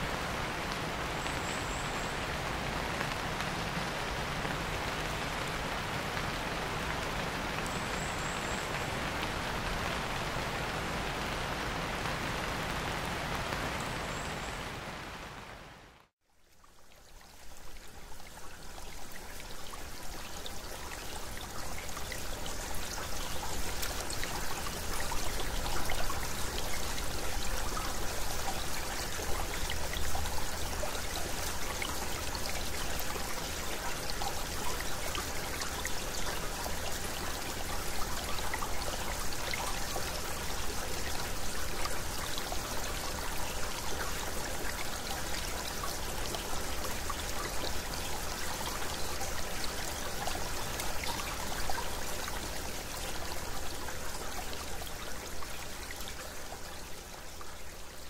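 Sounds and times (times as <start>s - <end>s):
stream trickling and splashing: 0.0s - 58.0s.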